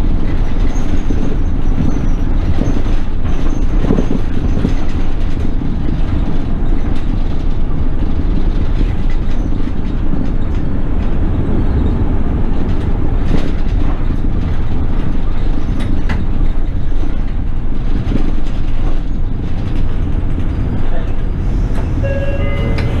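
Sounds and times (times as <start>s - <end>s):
bus engine rumble: 0.0s - 23.0s
road noise: 0.0s - 23.0s.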